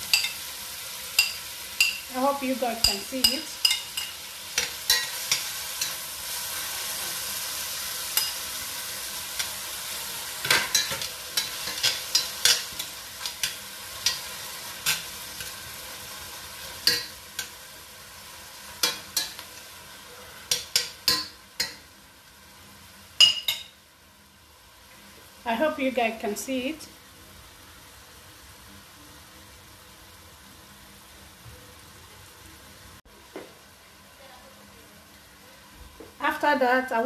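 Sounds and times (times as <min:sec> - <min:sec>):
shrimp sizzling in a pan: 0:00.0 - 0:37.0.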